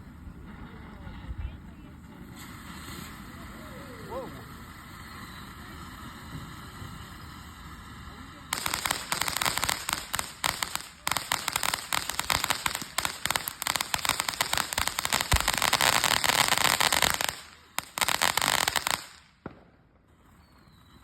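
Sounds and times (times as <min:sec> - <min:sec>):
fireworks cracking and popping: 0:00.3 - 0:21.0.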